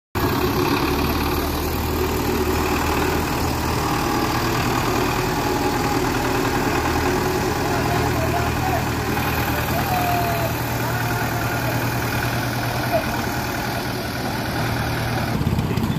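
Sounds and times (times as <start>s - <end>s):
tractor diesel engine running: 0.2s - 15.9s.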